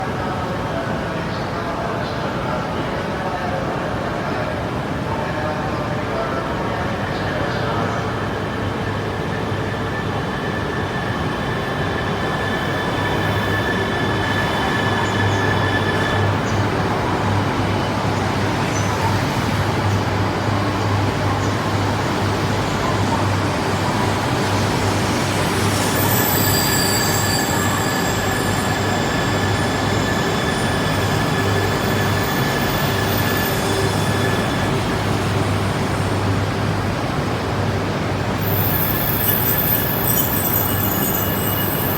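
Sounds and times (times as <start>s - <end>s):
train rail rumble: 6.1s - 41.9s.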